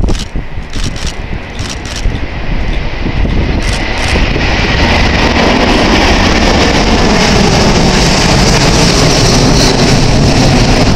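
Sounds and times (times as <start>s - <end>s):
high jet whine: 0.0s - 10.9s
jet noise overhead: 0.0s - 10.9s.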